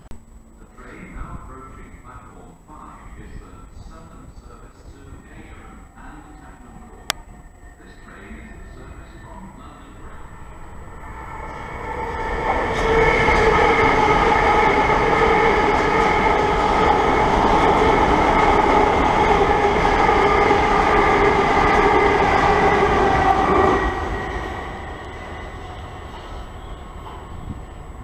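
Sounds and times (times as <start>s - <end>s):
electric train rumbling and whining: 0.0s - 28.0s.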